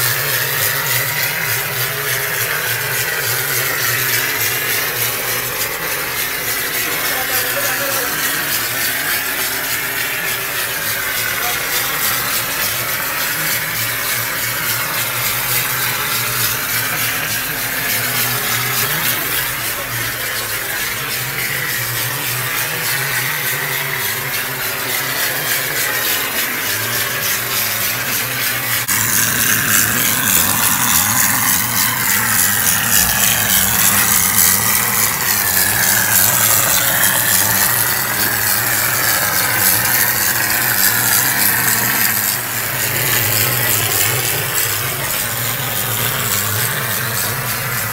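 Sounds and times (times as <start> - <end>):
machine hum with hiss: 0.0 - 47.9.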